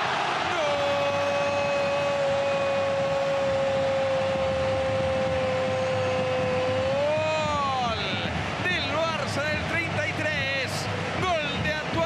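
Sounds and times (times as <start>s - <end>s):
stadium crowd noise: 0.0s - 12.0s.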